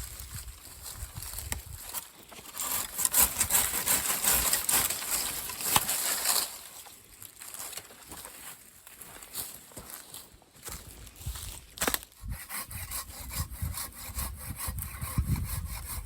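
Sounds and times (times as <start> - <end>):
dry wood and brush scraping: 0.0 - 16.0.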